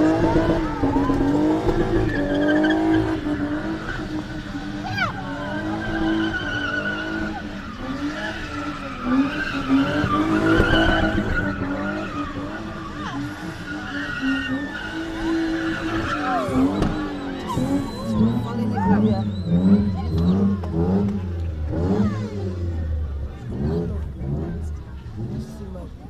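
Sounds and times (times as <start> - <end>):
tyres squealing and skidding: 0.0 - 25.4
car engine at high revs: 0.0 - 26.0.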